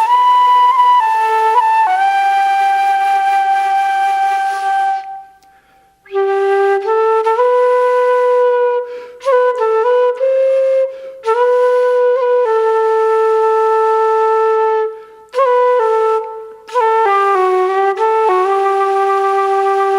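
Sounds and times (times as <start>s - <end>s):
solo flute melody: 0.0s - 19.9s.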